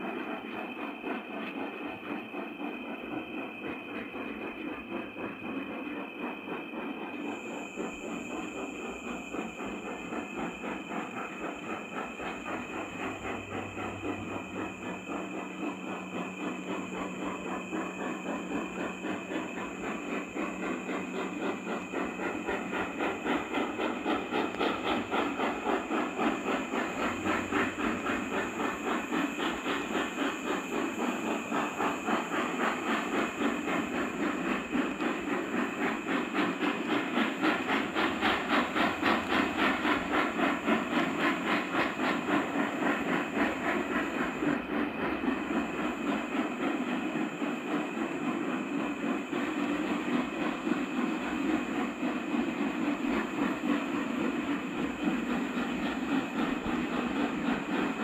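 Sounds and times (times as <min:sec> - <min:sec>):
steam hissing: 0:00.0 - 0:58.0
steam locomotive exhaust beats: 0:00.0 - 0:58.0.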